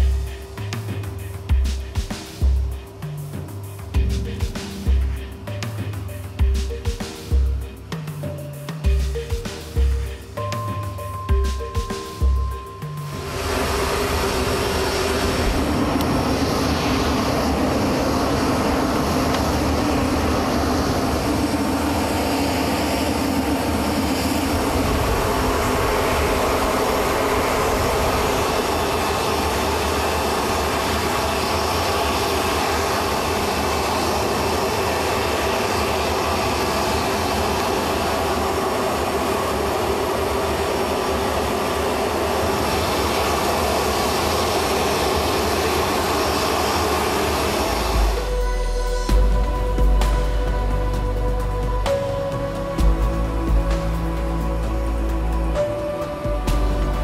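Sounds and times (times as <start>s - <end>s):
aircraft turbine engine drone: 0.0s - 57.0s
faint turbine whine: 0.0s - 57.0s.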